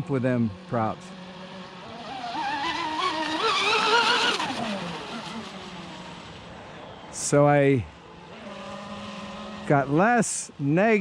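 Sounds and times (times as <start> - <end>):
rc boat motor and propeller whine: 0.0 - 11.0.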